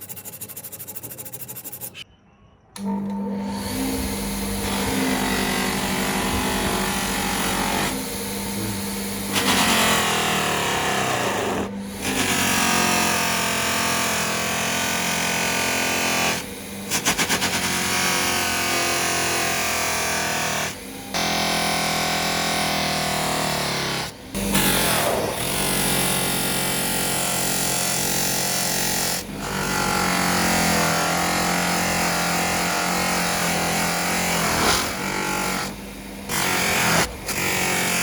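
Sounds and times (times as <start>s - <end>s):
electric power tool motor hum: 2.8s - 38.0s.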